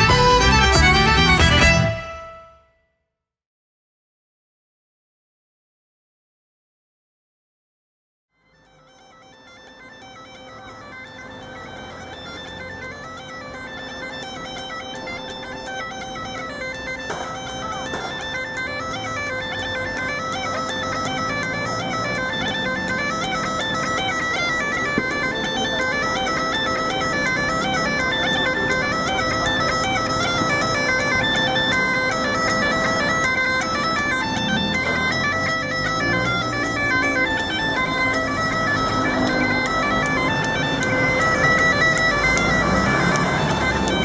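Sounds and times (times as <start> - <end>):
bagpipe tune with drone: 0.0 - 2.7, 8.4 - 44.0.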